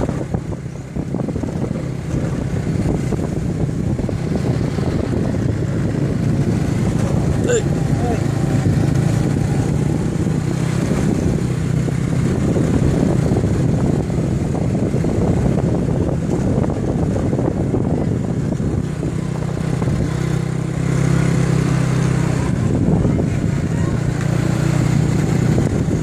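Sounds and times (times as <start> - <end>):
motorcycle engine running: 0.0 - 26.0
wind rumbling on microphone: 0.0 - 26.0.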